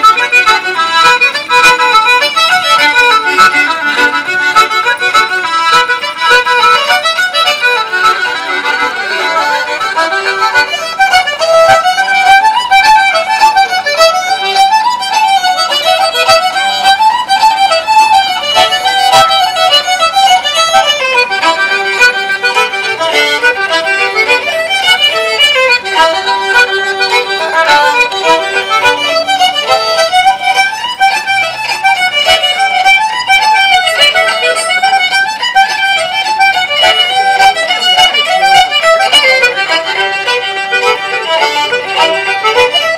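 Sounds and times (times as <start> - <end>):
fast fiddle tune: 0.0 - 42.9.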